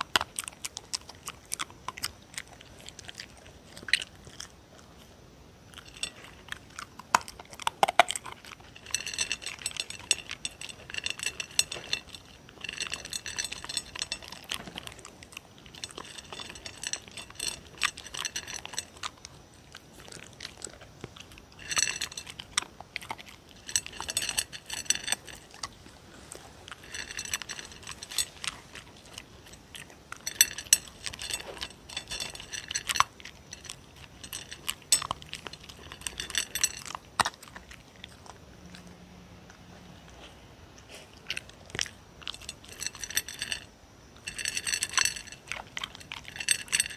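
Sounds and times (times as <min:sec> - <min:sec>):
dog chewing dry kibble: 0:00.0 - 0:46.9.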